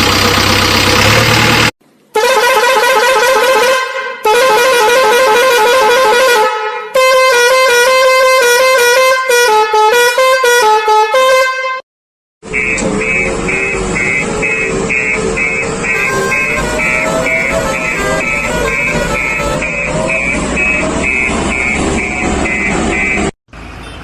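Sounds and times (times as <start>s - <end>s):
musical vehicle horn: 2.2s - 11.8s, 12.4s - 23.3s.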